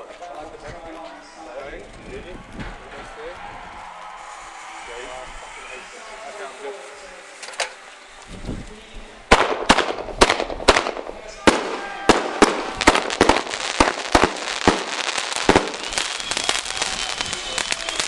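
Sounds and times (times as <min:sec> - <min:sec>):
fireworks exploding: 0:02.4 - 0:08.6, 0:09.2 - 0:18.0.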